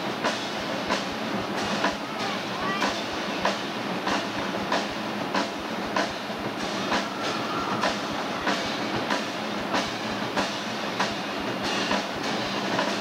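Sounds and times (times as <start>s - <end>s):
marching drumline playing: 0.0s - 13.0s.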